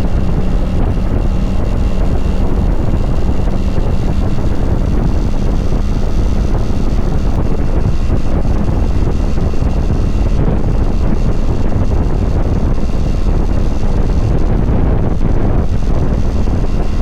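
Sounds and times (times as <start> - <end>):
motorcycle engine at steady speed: 0.0 - 17.0
wind buffeting on microphone: 0.0 - 17.0.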